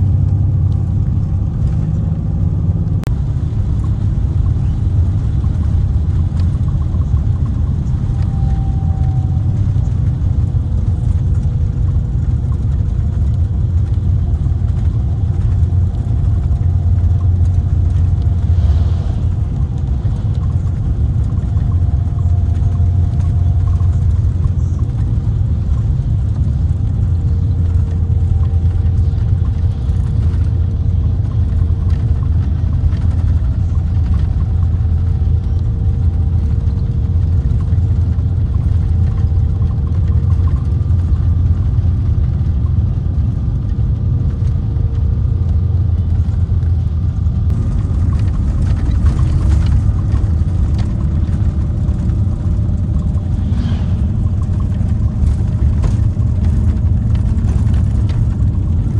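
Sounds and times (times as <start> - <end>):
diesel engine rumbling: 0.0 - 58.9
faint steady whine: 2.5 - 58.9.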